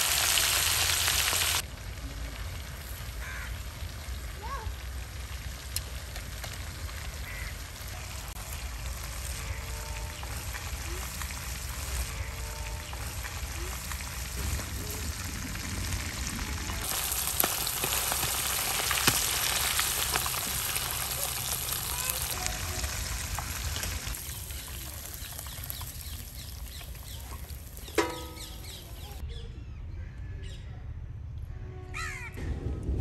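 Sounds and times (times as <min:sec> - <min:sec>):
fish sizzling in hot oil: 0:00.0 - 0:29.2.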